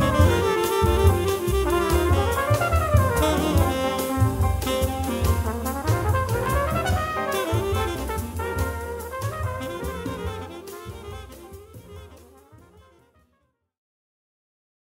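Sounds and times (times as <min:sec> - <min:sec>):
drum kit with cymbals: 0:00.0 - 0:13.0
saxophone and brass: 0:00.0 - 0:13.4.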